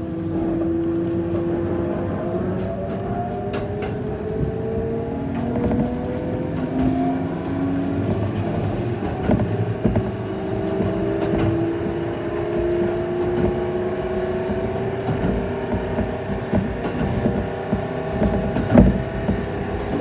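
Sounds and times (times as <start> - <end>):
train traction motor whining: 0.0 - 20.0
wheels clicking on track: 0.0 - 20.0.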